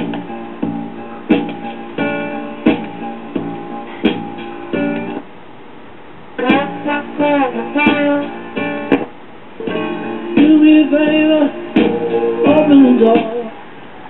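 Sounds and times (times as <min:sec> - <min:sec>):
music from small record player speaker: 0:00.0 - 0:05.2, 0:06.4 - 0:14.0.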